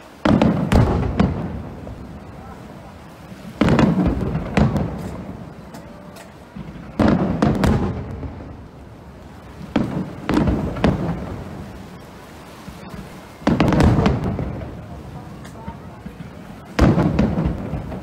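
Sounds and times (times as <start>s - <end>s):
firework shells bursting: 0.0s - 12.0s, 12.6s - 18.0s.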